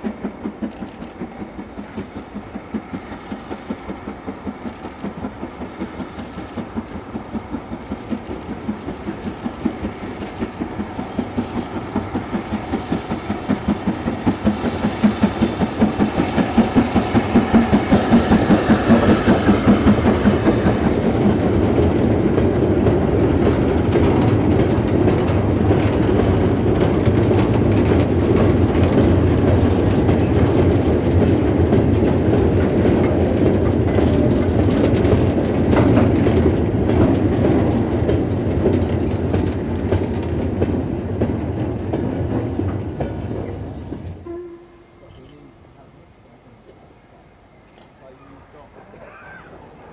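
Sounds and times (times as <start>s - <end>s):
steam locomotive chuffing: 0.0s - 49.9s
wheels clacking over rail joints: 0.0s - 49.9s.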